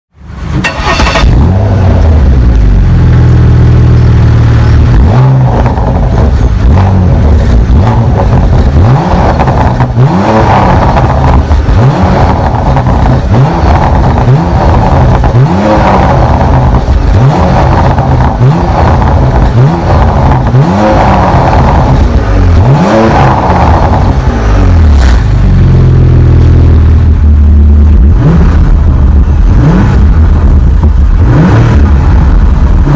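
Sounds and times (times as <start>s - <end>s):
car exhaust revving: 0.3s - 32.9s
exhaust crackles and pops: 0.4s - 32.9s.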